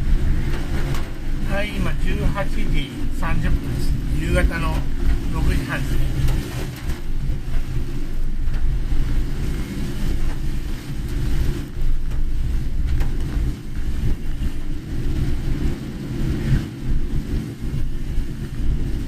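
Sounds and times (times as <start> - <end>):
hiss of tyre spray and rain: 0.0 - 19.0
road and engine rumble: 0.0 - 19.0.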